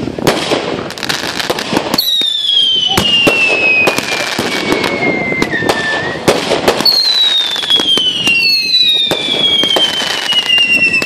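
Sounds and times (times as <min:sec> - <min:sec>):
firework pops and cracks: 0:00.0 - 0:11.0
firework whistles falling in pitch: 0:01.9 - 0:11.0.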